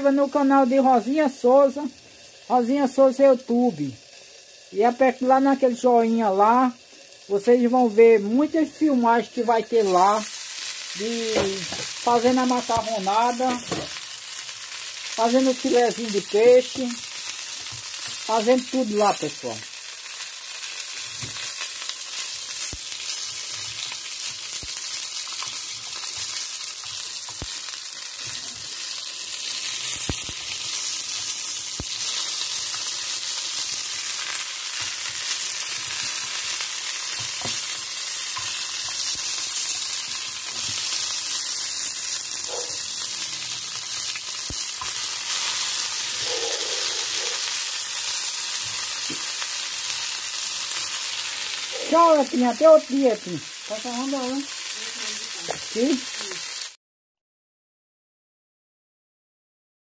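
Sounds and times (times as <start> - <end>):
fish sizzling in frying: 0.0 - 56.8.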